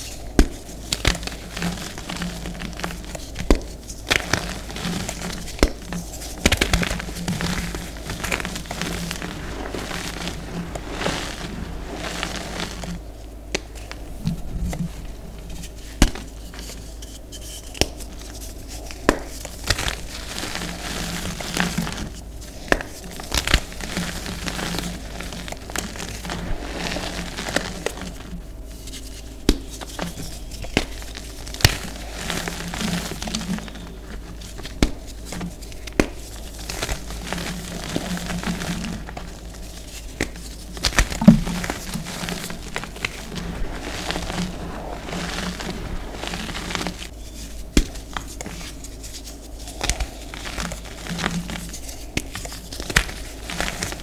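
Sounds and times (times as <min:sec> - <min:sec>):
chalk crunching and rustling: 0:00.0 - 0:54.0
crackles of breaking clumps: 0:00.0 - 0:54.0
steady low hum: 0:00.0 - 0:54.0.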